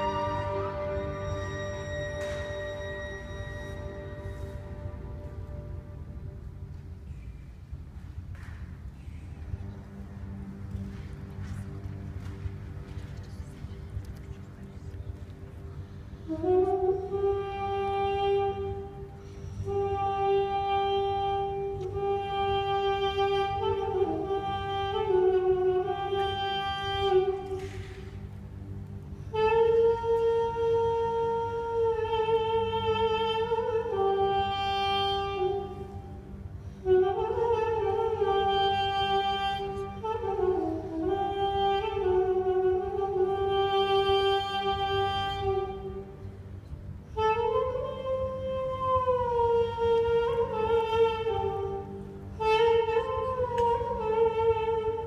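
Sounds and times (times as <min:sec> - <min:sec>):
solo woodwind melody: 0:00.0 - 0:08.2, 0:08.9 - 0:55.0
soft orchestral accompaniment: 0:00.0 - 0:55.0.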